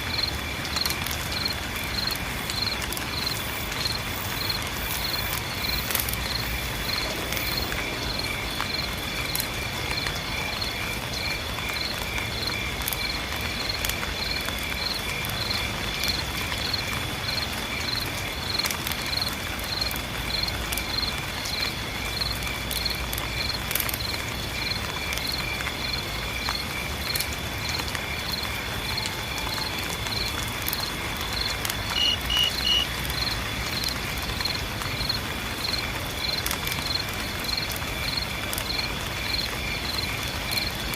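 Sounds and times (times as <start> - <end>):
high insect drone: 0.0 - 40.9
insects chirping: 0.0 - 40.9
light rain: 0.0 - 40.9.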